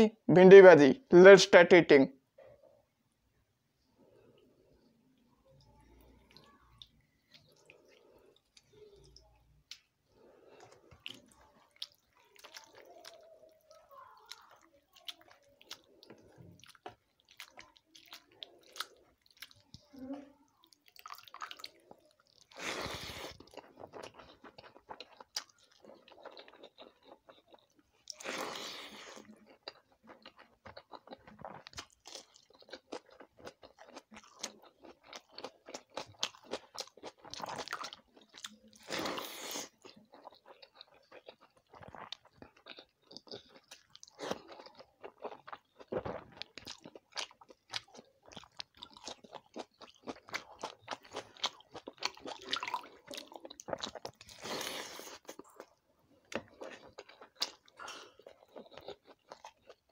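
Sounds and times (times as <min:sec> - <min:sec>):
chewing and crunching food: 0:04.0 - 0:59.9.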